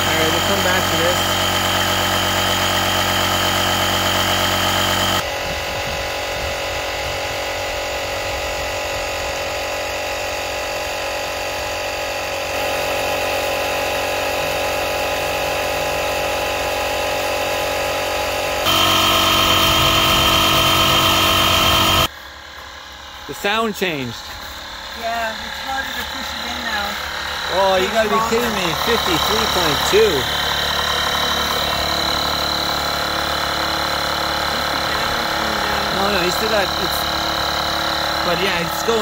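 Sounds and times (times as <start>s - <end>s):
air compressor running: 0.0s - 39.0s.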